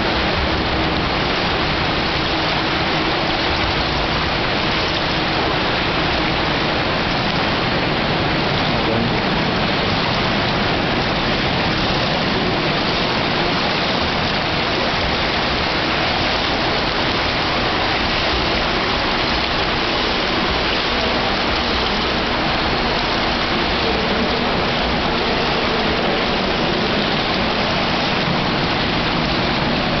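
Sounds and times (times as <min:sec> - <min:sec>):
swimming pool water splashing: 0:00.0 - 0:30.0.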